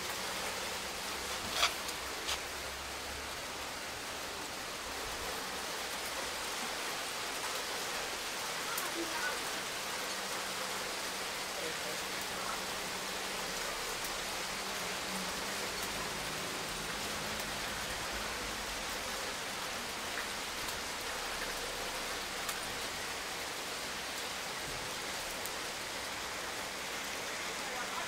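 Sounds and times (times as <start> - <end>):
hail falling hiss: 0.0 - 28.0.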